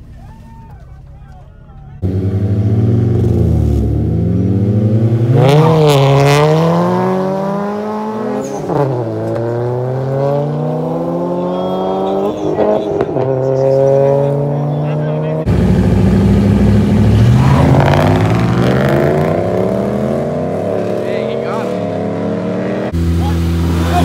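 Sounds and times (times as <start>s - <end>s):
car engines accelerating hard: 0.9s - 24.0s.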